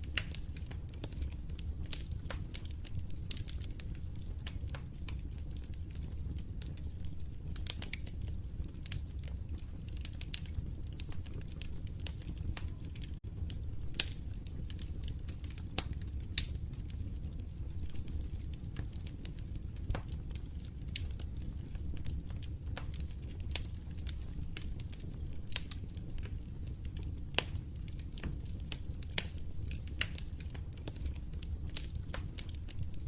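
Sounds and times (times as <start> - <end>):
sharp pops and snaps of fire: 0.0 - 33.0
wood fire crackling: 0.0 - 33.0.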